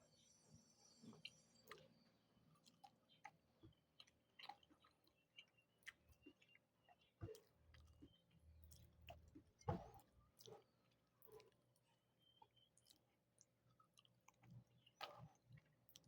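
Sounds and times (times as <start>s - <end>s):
chewing soft food: 1.1s - 16.0s.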